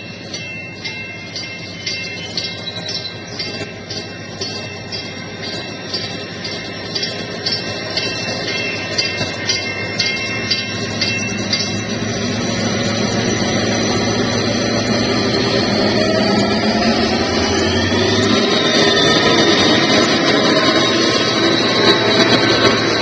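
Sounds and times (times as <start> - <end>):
high sliding tone: 0.0 - 23.0
train rumbling: 0.0 - 23.0.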